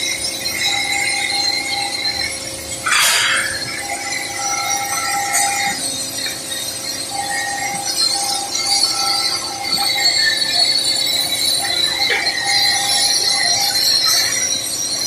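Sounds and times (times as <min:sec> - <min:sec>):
ringing metallic tones: 0:00.0 - 0:15.0.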